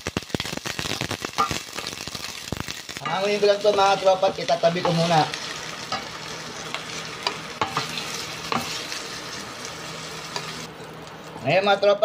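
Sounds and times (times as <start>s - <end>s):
peppers sizzling in hot oil: 0.0s - 12.0s.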